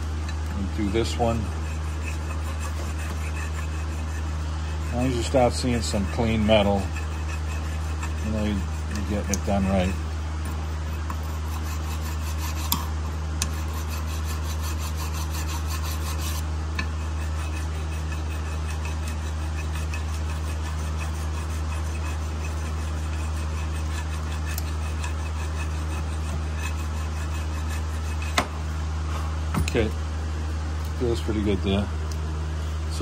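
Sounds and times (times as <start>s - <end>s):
steady low hum: 0.0s - 33.0s
hand file rasping on steel: 0.6s - 28.4s.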